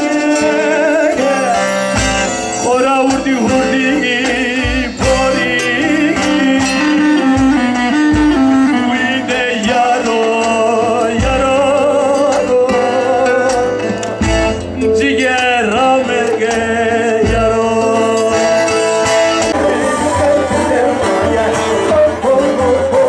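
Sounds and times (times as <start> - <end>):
long-necked lute playing: 0.0 - 15.0, 15.6 - 23.0
man singing: 0.0 - 23.0.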